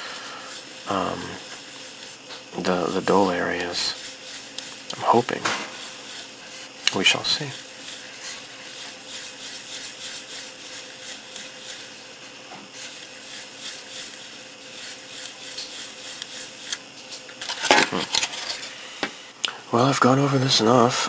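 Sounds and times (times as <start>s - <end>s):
cloth scrubbing plastic: 0.5s - 18.4s.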